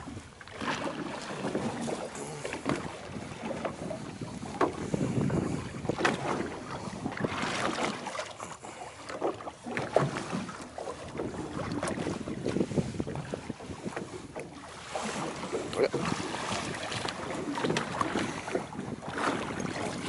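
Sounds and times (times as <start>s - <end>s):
water sloshing against hull: 0.0s - 20.0s
wind buffeting microphone: 1.4s - 8.3s, 9.8s - 20.0s.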